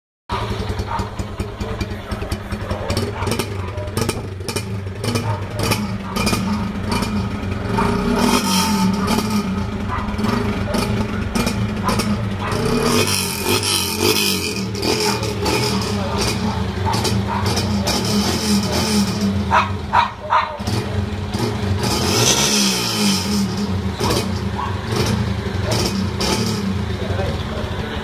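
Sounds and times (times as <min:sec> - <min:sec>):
car engine revving through loud exhaust: 0:03.1 - 0:19.9, 0:20.6 - 0:27.3.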